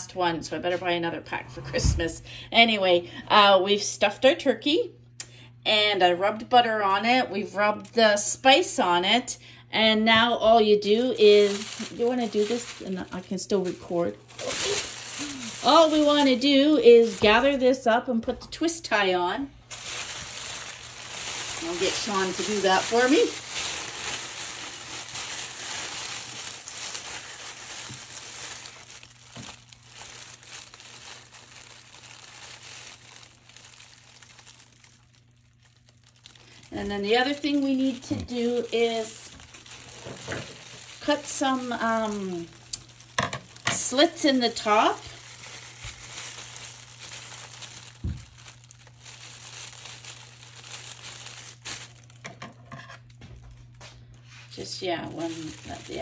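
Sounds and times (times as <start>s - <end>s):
plastic bag crinkling: 10.0s - 56.0s.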